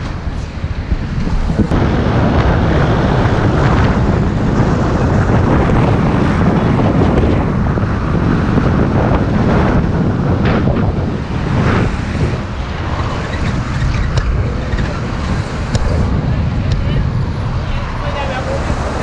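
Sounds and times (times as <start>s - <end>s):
moving bus noise: 0.0s - 19.0s
wind buffeting microphone: 0.0s - 19.0s.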